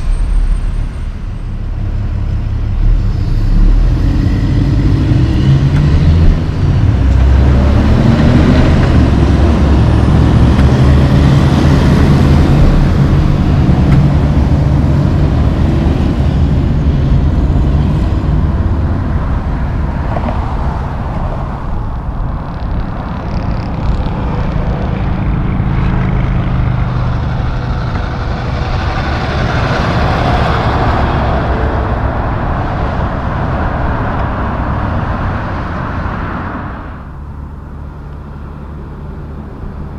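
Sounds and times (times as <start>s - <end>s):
diesel truck engine: 0.0s - 39.9s
road traffic: 0.0s - 39.9s.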